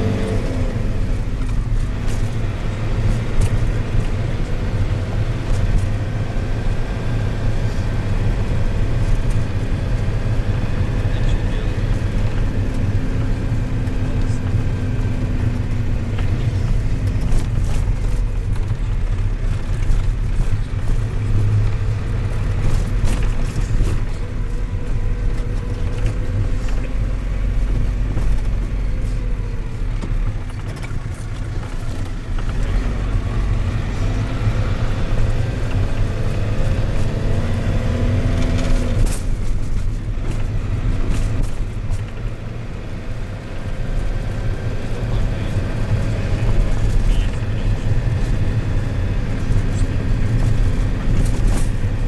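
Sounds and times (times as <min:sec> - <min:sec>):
minibus engine and road noise: 0:00.0 - 0:52.0.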